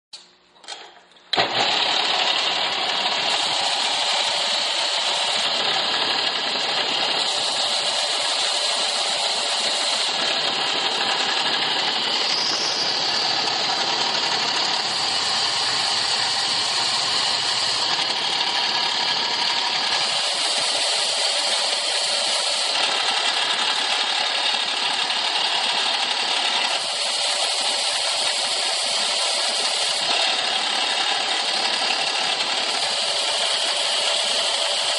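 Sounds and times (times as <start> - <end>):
motor humming: 1.3 - 34.9
sander hissing on wood: 1.5 - 34.9.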